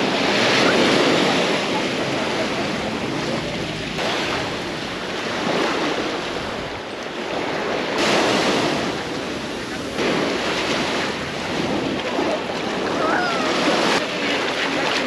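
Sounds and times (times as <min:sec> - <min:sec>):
sea waves breaking: 0:00.0 - 0:15.0
wind on microphone: 0:00.0 - 0:15.0.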